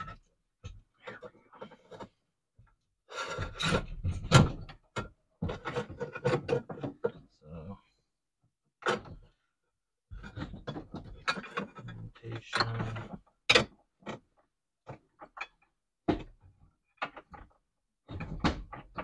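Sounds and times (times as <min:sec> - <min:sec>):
clicks knocks and scrapes: 0:00.0 - 0:07.3, 0:08.8 - 0:09.4, 0:10.1 - 0:19.0.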